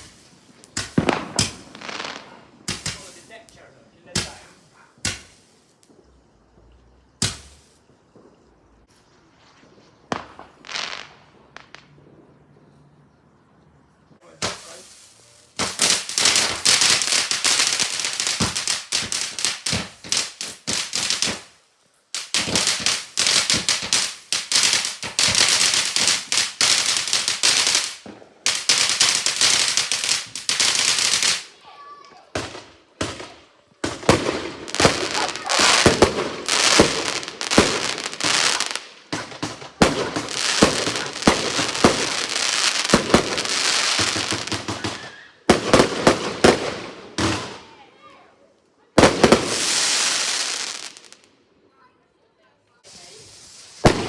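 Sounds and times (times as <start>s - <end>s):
fireworks crackling: 0.0s - 12.4s, 14.1s - 51.9s, 52.8s - 54.0s
fireworks bangs: 0.0s - 12.6s, 14.2s - 48.2s, 49.0s - 51.8s, 52.8s - 54.0s.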